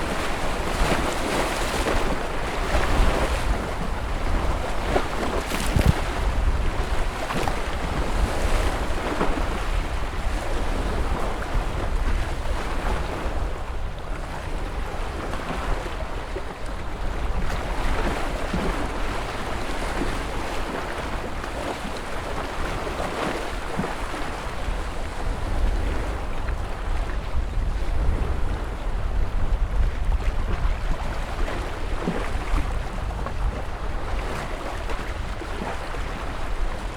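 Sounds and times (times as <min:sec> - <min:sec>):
wind buffeting microphone: 0:00.0 - 0:22.9, 0:24.2 - 0:36.9
ocean waves breaking on shore: 0:00.0 - 0:36.9.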